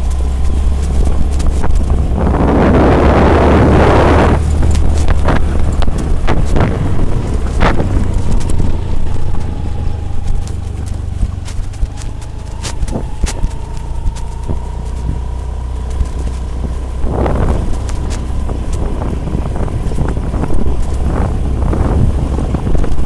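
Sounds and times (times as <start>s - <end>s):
scooter engine running: 0.0s - 23.0s
wind buffeting microphone: 0.0s - 23.0s.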